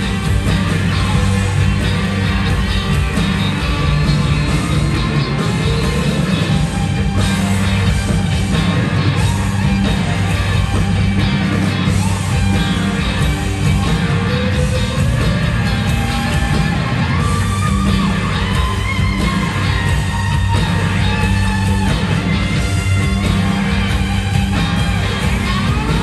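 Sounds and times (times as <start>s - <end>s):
gliding lead guitar notes: 0.0s - 26.0s
live rock band playing: 0.0s - 26.0s.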